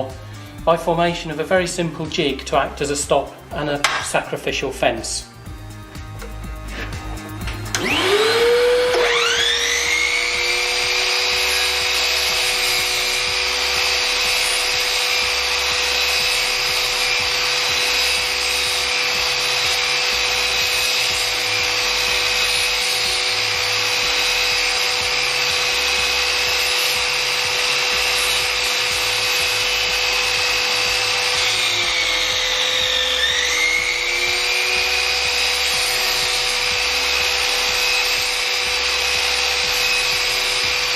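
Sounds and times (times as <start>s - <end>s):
mitre saw motor whining: 0.0s - 4.3s, 5.2s - 40.9s
saw blade cutting timber: 0.8s - 5.3s, 6.2s - 40.9s.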